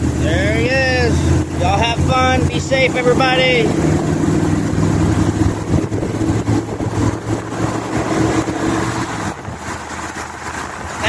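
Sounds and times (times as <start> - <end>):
road and wind noise: 0.0 - 11.0
vehicle engine hum: 0.0 - 11.0.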